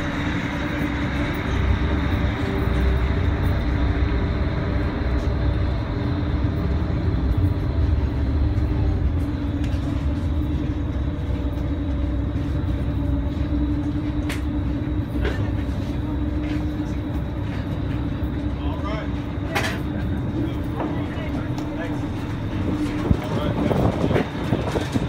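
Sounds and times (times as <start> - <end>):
ferry engines rumbling: 0.0 - 25.0.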